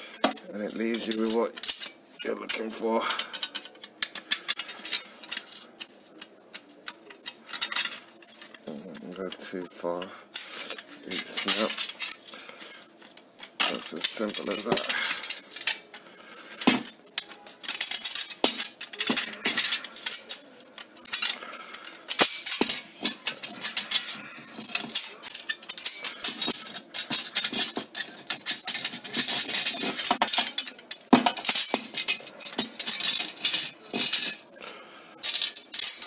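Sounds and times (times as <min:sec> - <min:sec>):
metal strip clicks and rattles: 0:00.3 - 0:12.4, 0:13.0 - 0:16.0, 0:16.6 - 0:34.5, 0:35.2 - 0:36.0.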